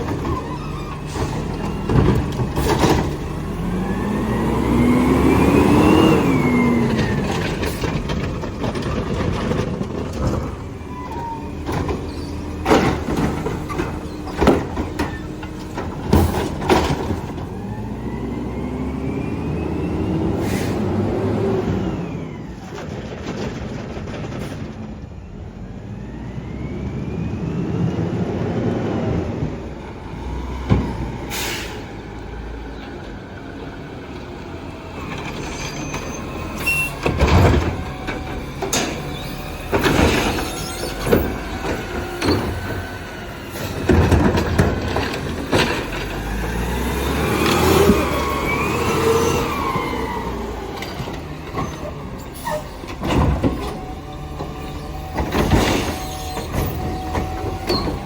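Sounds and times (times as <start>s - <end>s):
trash barrels knocking and banging: 0.0s - 25.3s, 28.6s - 31.4s, 32.3s - 58.0s
garbage truck engine rumble: 0.0s - 58.0s.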